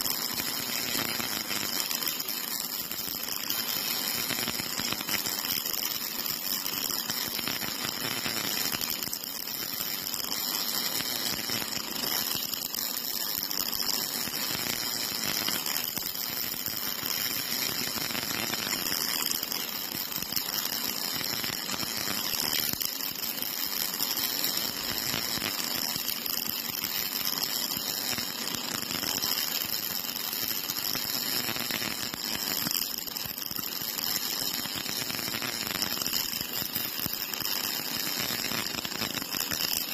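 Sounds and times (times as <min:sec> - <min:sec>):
welding arc crackling and hissing: 0:00.0 - 0:39.9.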